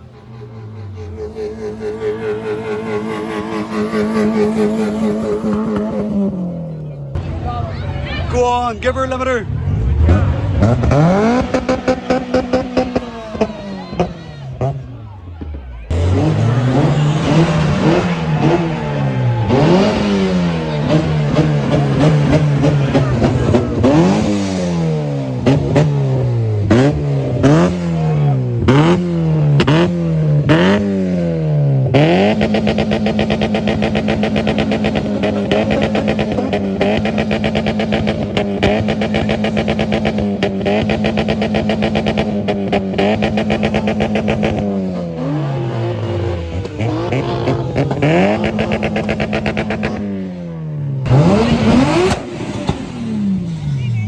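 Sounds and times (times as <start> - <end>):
car engine revving on limiter: 0.0 - 7.3, 9.6 - 15.1, 15.9 - 50.4, 51.0 - 53.8.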